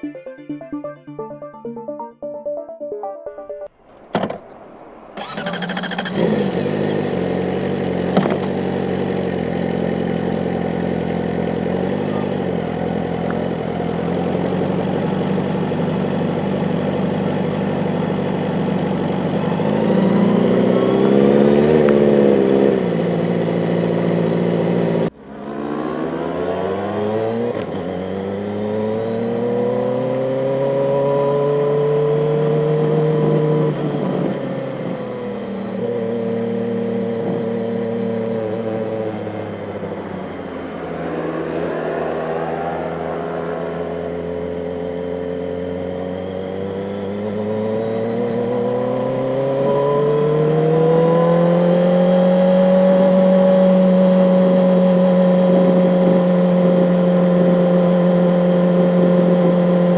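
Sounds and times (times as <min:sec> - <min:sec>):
motorcycle engine running: 0:04.2 - 0:59.9.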